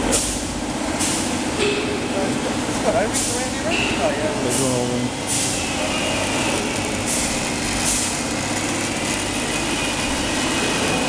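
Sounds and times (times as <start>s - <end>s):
factory machinery hum: 0.0s - 11.0s.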